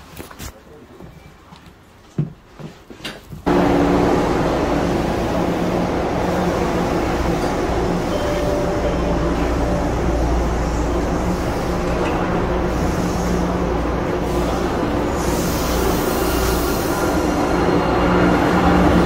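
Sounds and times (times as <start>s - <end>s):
subway train rumble and hum: 3.4s - 19.0s.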